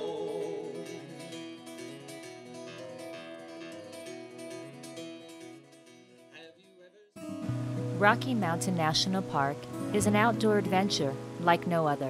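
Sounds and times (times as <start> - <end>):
acoustic guitar country music: 0.0 - 6.6, 7.2 - 12.0.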